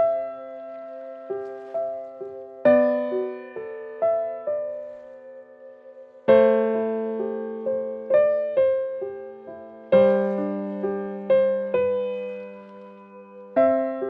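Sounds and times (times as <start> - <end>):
gentle solo piano music: 0.0 - 14.0.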